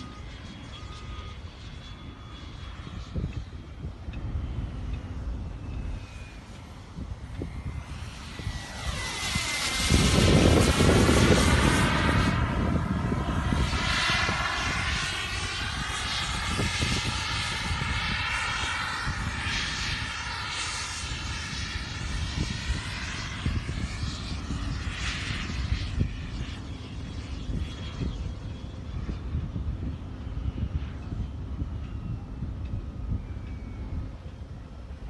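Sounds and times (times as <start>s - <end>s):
electric ducted fans whining: 0.0s - 35.0s
wind buffeting microphone: 0.0s - 35.0s.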